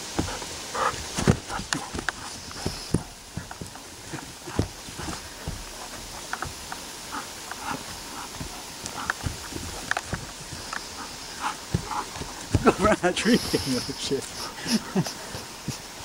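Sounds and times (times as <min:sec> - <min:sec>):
footsteps on grass: 0:00.0 - 0:16.0.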